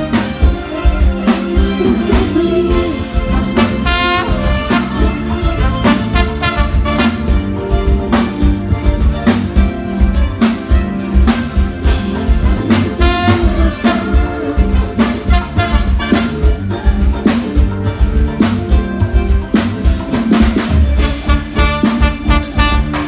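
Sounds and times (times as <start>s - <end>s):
drum kit beat: 0.0s - 23.0s
live band playing: 0.0s - 23.0s.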